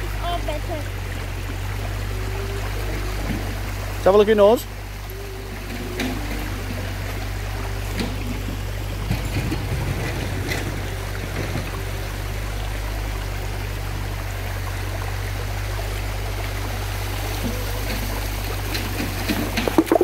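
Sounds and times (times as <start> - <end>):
child wading splashes: 0.0 - 20.0
river water rushing over rocks: 0.0 - 20.0.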